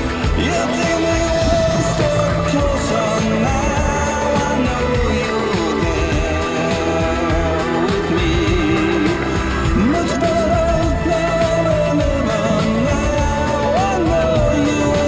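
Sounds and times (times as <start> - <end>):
song with wavering melody: 0.0 - 15.0.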